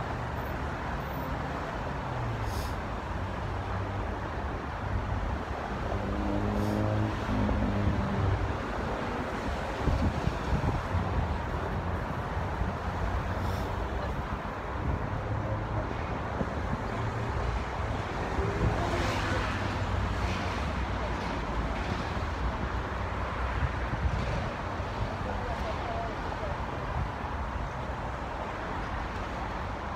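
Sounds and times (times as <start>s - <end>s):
cars passing on busy road: 0.0s - 29.9s.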